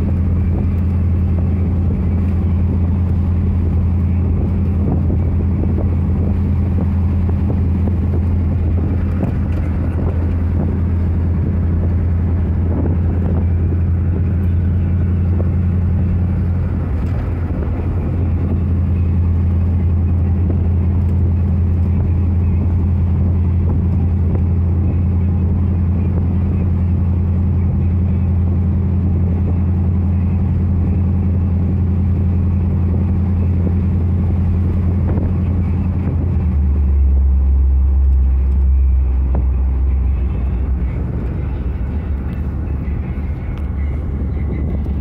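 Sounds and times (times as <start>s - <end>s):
engine and exhaust droning: 0.0s - 45.0s.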